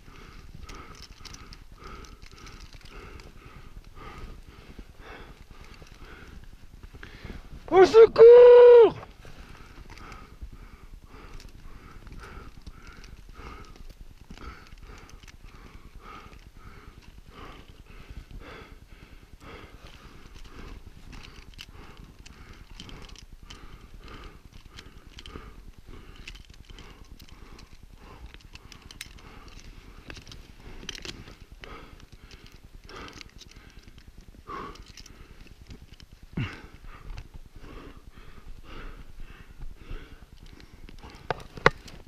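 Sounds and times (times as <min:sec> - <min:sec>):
man breathing hard: 0:00.0 - 0:42.0.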